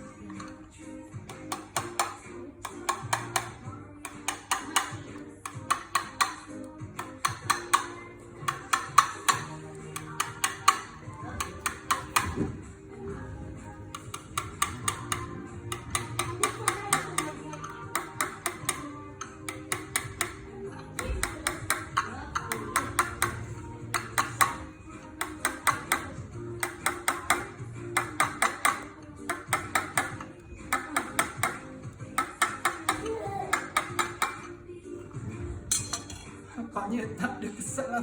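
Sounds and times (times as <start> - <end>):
knife tapping on eggshell: 1.3 - 12.5, 13.9 - 34.5.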